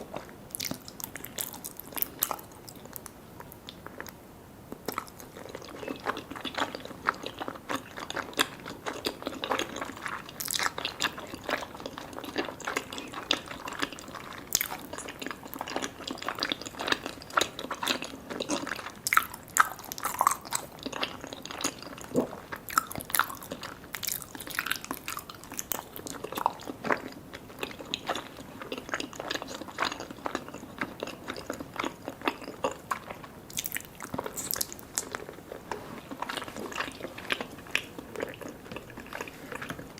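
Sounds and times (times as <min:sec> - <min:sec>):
chewing with sticky mouth clicks: 0:04.8 - 0:39.9.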